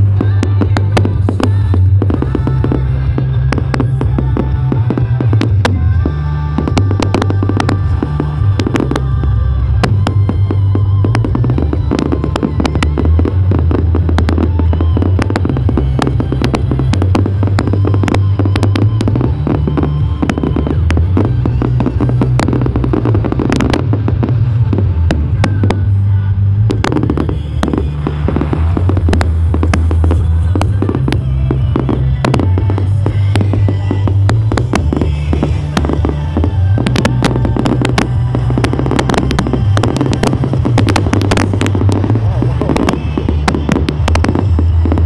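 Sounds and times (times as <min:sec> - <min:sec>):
fireworks cracking and banging: 0:00.0 - 0:45.0
loud music with heavy bass: 0:00.0 - 0:45.0.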